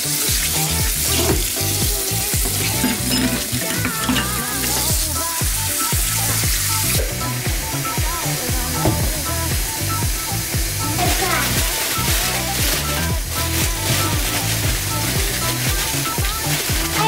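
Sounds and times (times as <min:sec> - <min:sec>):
background music with bass beat: 0:00.0 - 0:17.0
faucet water splashing into sink: 0:00.0 - 0:17.0.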